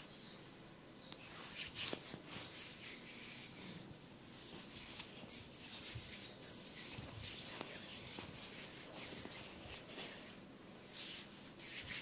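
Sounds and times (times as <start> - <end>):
scratching and rubbing on hair: 1.2 - 12.0.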